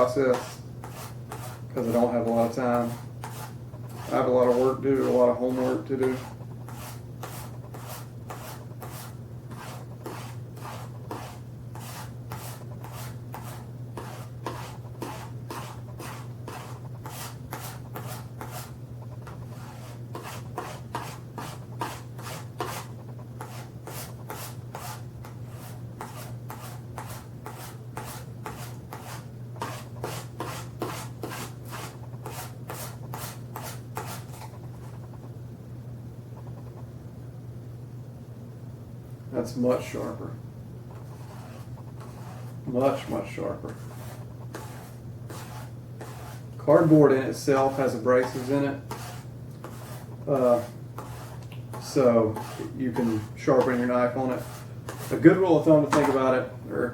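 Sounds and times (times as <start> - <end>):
knife stroking on cardboard strop: 0.0 - 35.2, 40.9 - 56.5
low electrical hum: 0.0 - 56.9.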